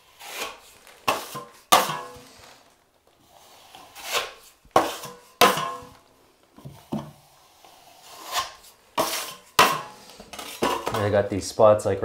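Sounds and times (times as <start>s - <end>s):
taping knife scraping drywall: 0.0s - 6.0s, 6.9s - 11.2s.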